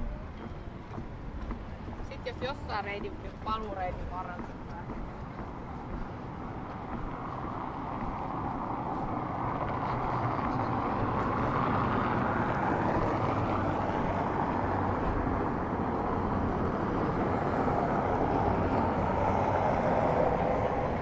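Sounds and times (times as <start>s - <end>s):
city traffic passing: 0.0s - 21.0s.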